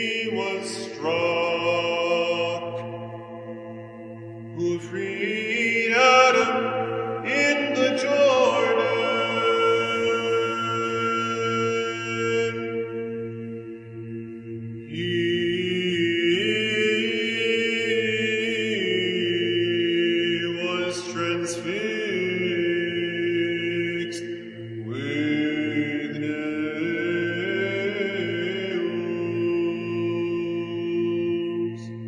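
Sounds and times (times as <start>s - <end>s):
steady low drone: 0.0s - 32.0s
voices chanting long notes: 0.0s - 32.0s.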